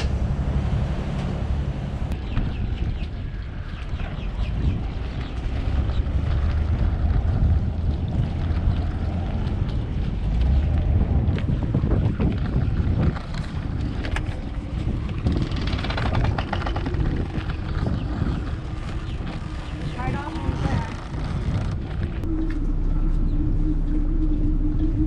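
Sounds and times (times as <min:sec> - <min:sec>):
boat engine low rumble: 0:00.0 - 0:25.0
wind buffeting microphone: 0:00.0 - 0:25.0.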